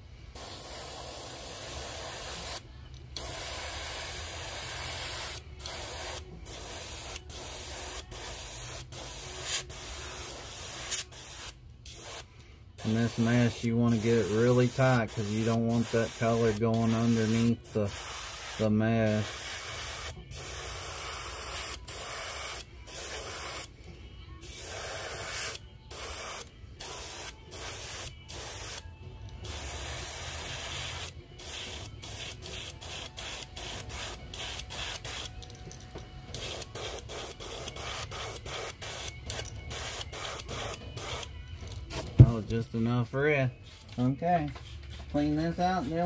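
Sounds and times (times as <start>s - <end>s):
airbrush hissing: 0.4s - 2.6s, 3.2s - 23.7s, 24.4s - 28.8s, 29.4s - 35.3s, 36.3s - 41.3s.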